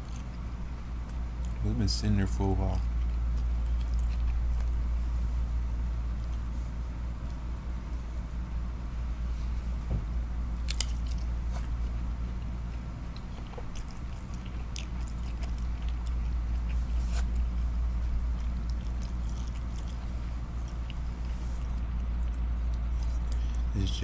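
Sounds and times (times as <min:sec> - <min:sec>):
close-up chewing: 0:00.0 - 0:24.0
steady low hum: 0:00.0 - 0:24.0.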